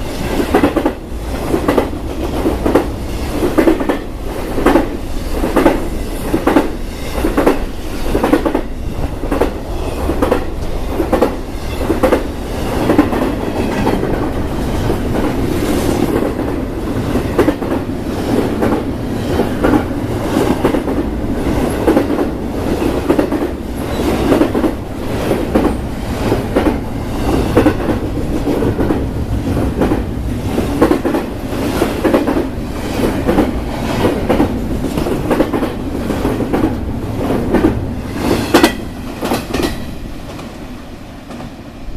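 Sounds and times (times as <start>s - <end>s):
train wheels clacking over rail joints: 0.0s - 40.6s
freight train rumble: 0.0s - 41.9s.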